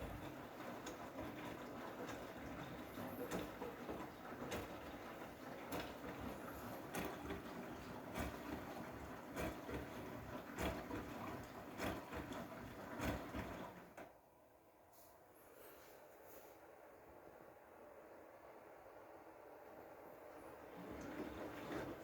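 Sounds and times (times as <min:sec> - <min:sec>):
washing machine churning: 0:00.0 - 0:22.0.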